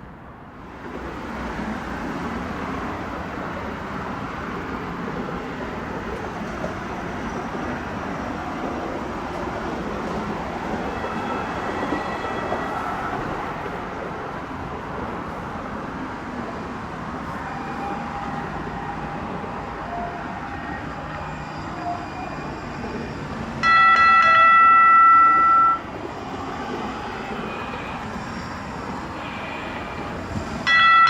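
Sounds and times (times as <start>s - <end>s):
train wheels rumbling on rail: 0.5s - 31.0s.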